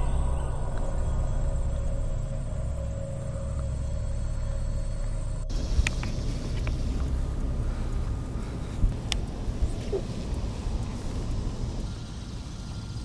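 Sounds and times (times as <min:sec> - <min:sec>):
deep rumbling drone: 0:00.0 - 0:13.0.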